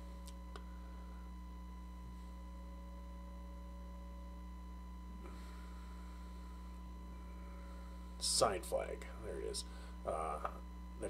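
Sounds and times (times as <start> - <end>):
electrical mains hum: 0.0 - 11.0
faint whining tones: 0.0 - 11.0.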